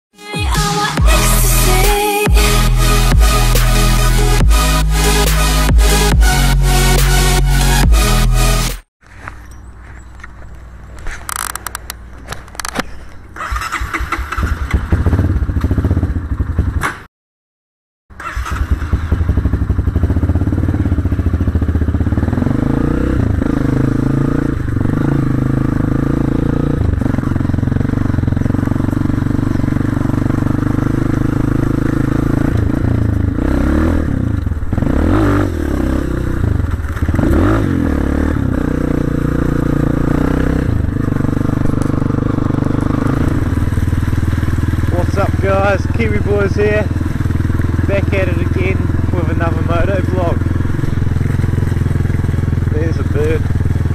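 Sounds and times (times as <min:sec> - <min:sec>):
dirt bike engine revving: 0:00.9 - 0:08.9, 0:13.4 - 0:17.0, 0:18.1 - 0:53.9.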